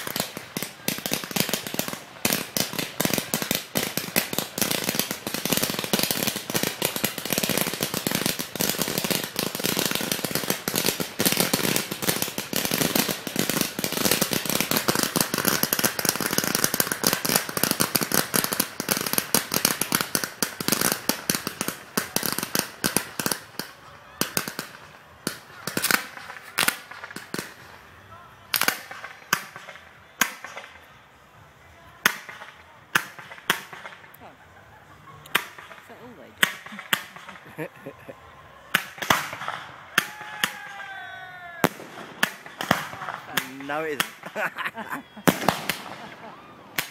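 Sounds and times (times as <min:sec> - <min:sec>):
fireworks crackling: 0:00.0 - 0:46.9.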